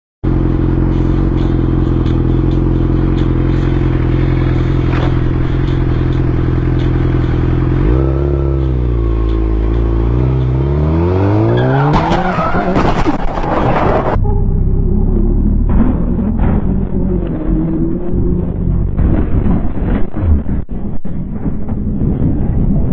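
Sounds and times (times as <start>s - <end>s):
traffic: 0.2s - 22.9s
vehicle engine accelerating: 0.2s - 22.9s.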